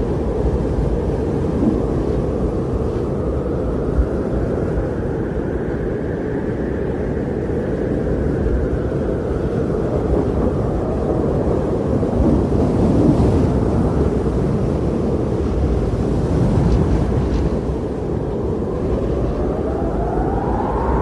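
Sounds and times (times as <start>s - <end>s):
strong blizzard wind: 0.0s - 21.0s.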